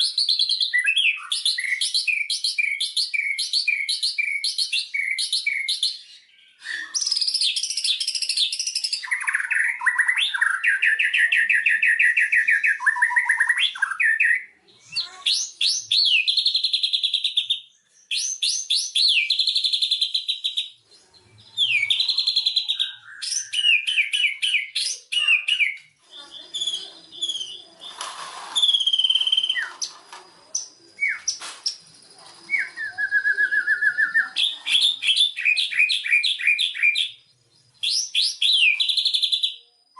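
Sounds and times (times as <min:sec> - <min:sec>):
bird singing varied song: 0:00.0 - 0:28.0, 0:28.6 - 0:39.9.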